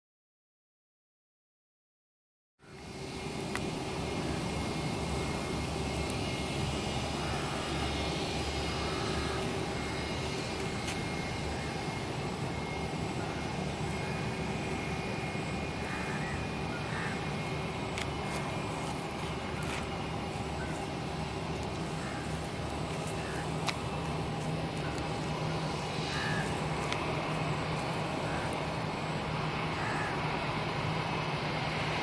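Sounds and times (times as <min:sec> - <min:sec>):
jet engines whining: 0:02.7 - 0:32.0.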